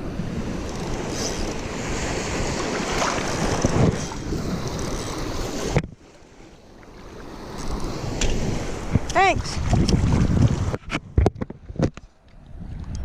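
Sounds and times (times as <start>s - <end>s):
wind buffeting microphone: 0.0s - 6.0s, 7.0s - 13.0s.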